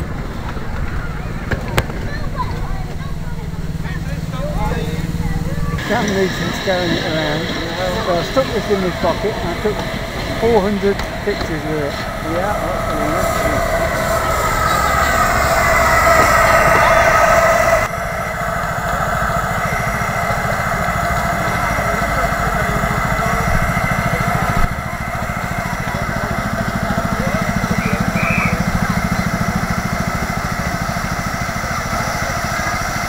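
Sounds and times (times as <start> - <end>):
steam locomotive running noise: 0.0 - 33.0.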